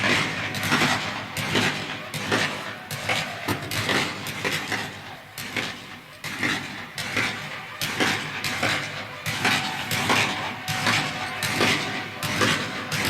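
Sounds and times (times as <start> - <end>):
continuous battle din: 0.0 - 13.0
scattered gunshots: 0.0 - 13.0.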